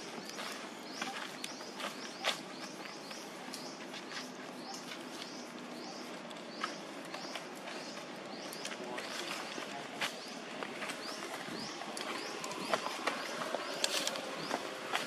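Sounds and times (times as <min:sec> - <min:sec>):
bird chirping: 0:00.0 - 0:15.0
dry leaves and twig crackling: 0:00.0 - 0:15.0.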